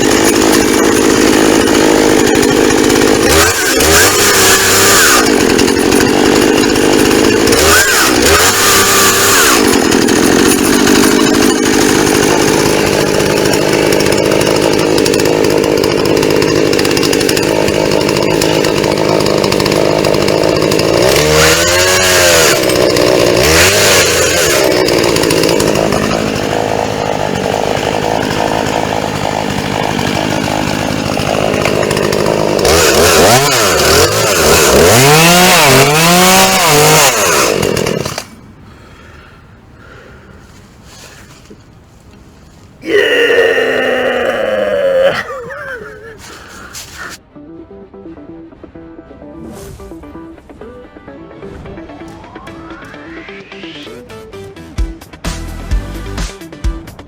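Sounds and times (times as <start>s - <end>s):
chainsaw engine revving: 0.0s - 41.6s, 42.6s - 47.2s.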